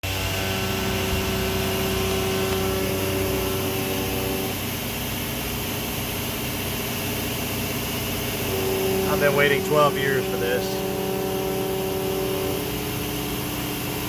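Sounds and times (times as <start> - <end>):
machining center whining: 0.0 - 14.0.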